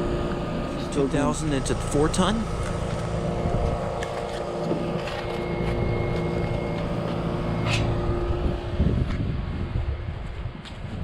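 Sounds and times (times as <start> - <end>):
steady tones: 0.0 - 9.1
heat pump fan drone: 0.0 - 11.0.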